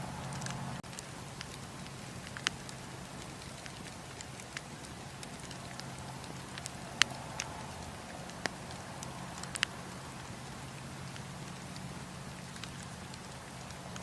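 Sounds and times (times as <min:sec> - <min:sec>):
low rumble of flames: 0:00.0 - 0:14.0
burning wood popping and snapping: 0:00.2 - 0:14.0.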